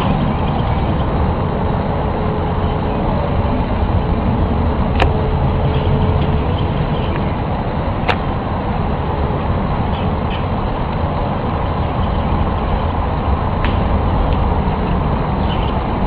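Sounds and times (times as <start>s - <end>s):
faint hum: 0.0s - 16.0s
loud low rumble: 0.0s - 16.0s.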